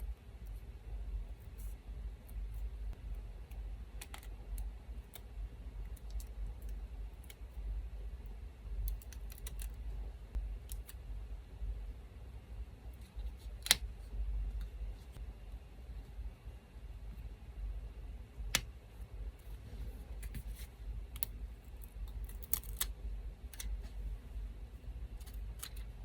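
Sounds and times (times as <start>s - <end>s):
electric fan humming: 0.0s - 26.0s.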